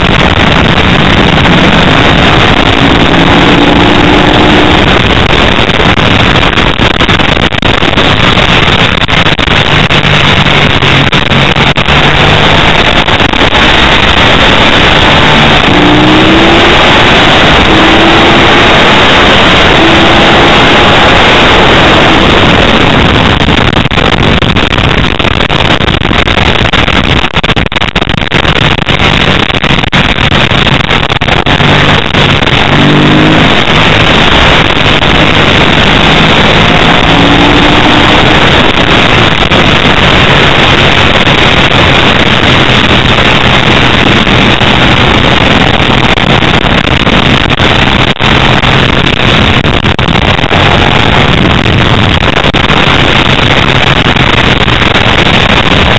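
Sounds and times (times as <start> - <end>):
motorcycle engine racing: 0.0 - 55.9
wind rushing over microphone: 0.0 - 55.9.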